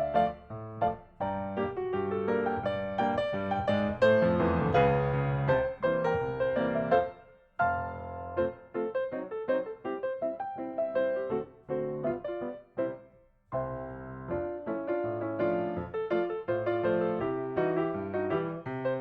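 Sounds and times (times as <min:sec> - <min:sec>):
instrumental piano music: 0:00.0 - 0:19.0.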